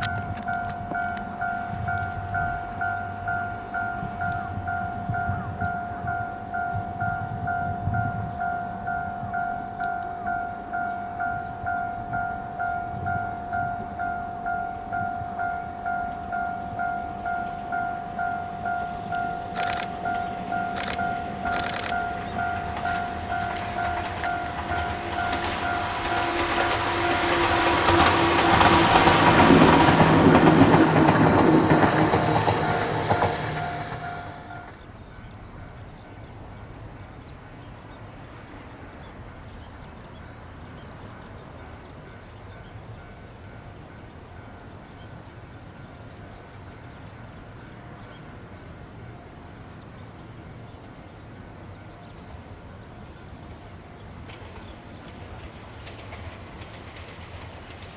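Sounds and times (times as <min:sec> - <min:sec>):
electric train passing: 0:00.0 - 0:57.9
outdoor background noise: 0:00.0 - 0:57.9.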